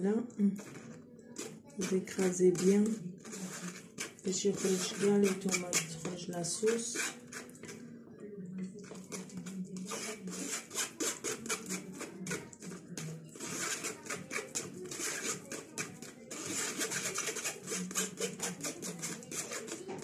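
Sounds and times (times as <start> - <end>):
spoon rasping on metal sieve: 0.6 - 7.9, 8.8 - 20.0.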